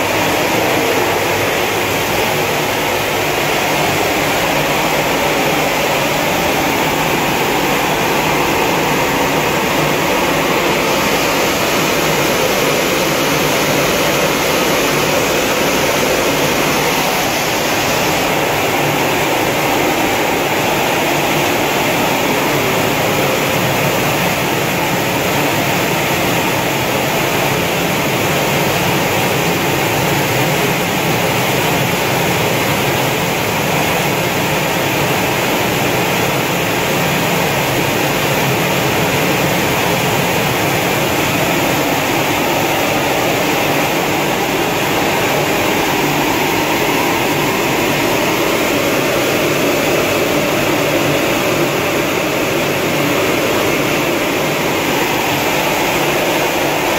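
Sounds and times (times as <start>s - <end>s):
grain sorting machine hissing: 0.0s - 56.9s.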